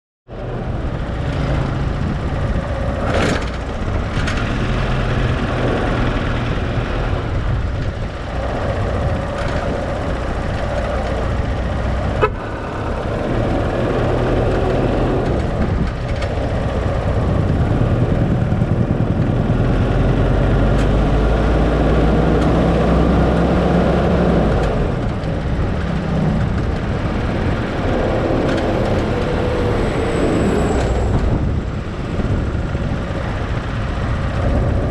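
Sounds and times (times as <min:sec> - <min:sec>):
vehicle engine and road rumble: 0:00.3 - 0:34.9.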